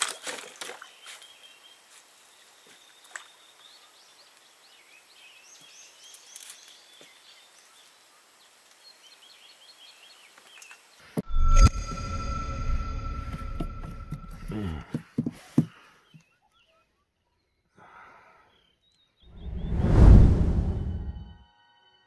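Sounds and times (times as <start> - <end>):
songbird calls and chirps: 0.0 - 14.9, 15.7 - 19.8.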